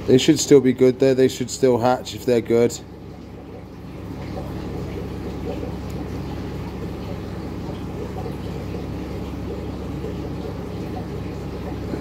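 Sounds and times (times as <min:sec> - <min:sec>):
churning water: 0:00.0 - 0:12.0.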